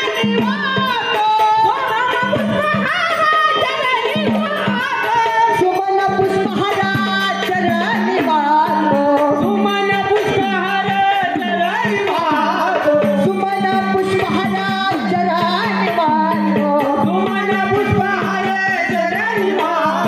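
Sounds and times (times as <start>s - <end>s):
person singing: 0.0s - 20.0s
tabla drum strokes: 0.0s - 20.0s.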